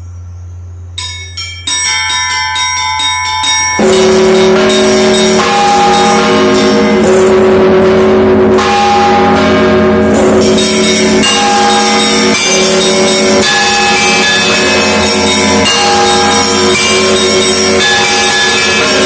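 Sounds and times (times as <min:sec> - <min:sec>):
heavy bells ringing: 0:00.0 - 0:19.0
small high bells striking: 0:00.0 - 0:19.0.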